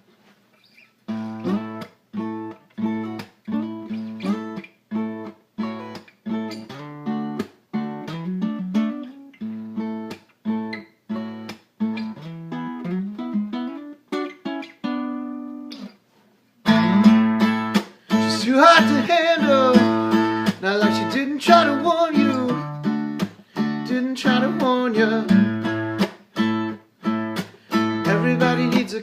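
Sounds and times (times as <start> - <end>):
acoustic guitar strumming: 1.1 - 16.0, 16.6 - 29.0.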